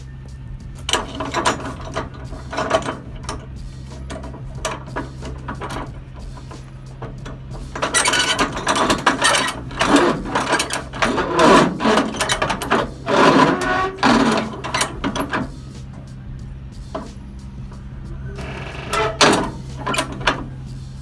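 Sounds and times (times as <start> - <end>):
strap winch ratcheting clicks: 0.8 - 15.9, 18.3 - 20.6.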